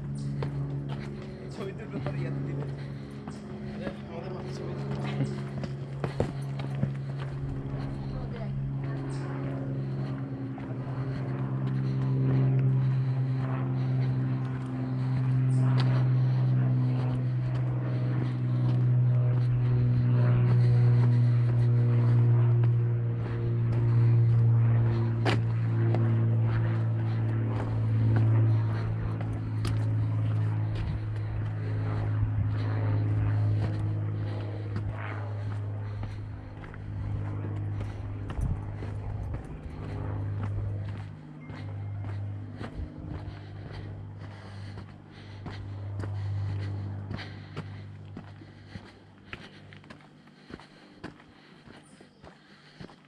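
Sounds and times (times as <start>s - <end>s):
footsteps on gravel: 0.0s - 53.0s
low engine drone: 0.0s - 53.0s
low mechanical hum: 0.0s - 53.0s.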